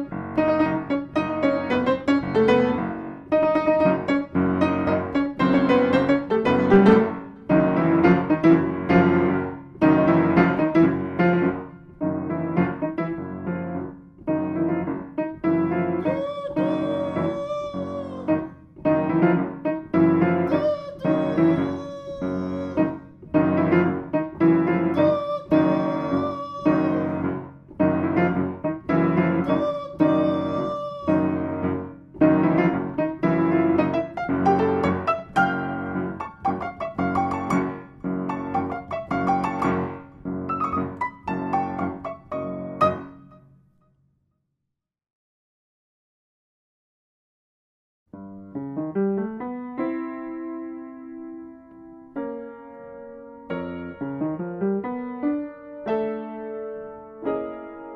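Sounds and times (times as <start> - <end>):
piano music: 0.0 - 43.5, 48.4 - 57.9.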